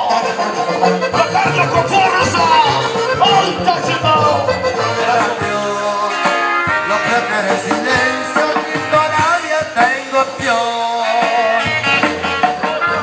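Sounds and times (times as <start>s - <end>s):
song with singing over a beat: 0.0s - 13.0s.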